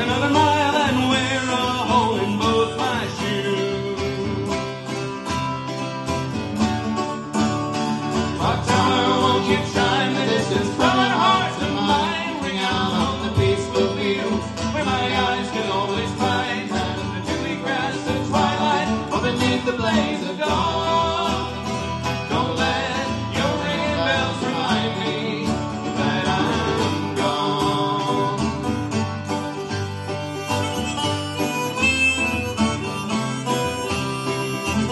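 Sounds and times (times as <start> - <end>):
acoustic guitar: 0.0 - 34.9
banjo: 0.0 - 34.9
harmonica melody: 0.0 - 34.9.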